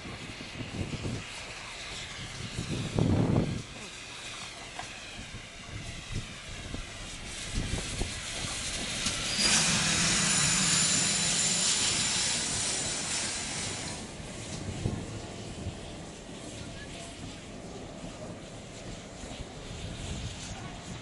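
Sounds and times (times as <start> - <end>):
steam locomotive passing: 0.0 - 21.0
loud steam hiss: 0.2 - 21.0.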